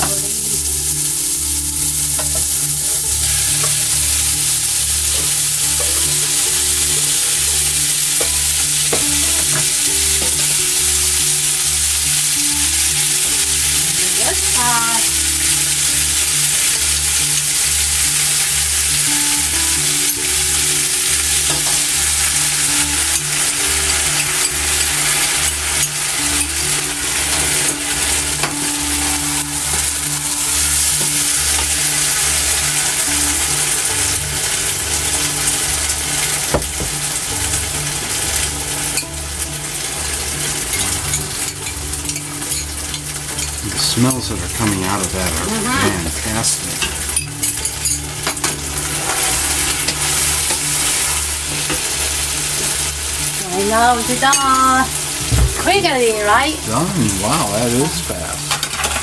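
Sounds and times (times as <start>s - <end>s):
food sizzling in a hot pot: 0.0s - 59.0s.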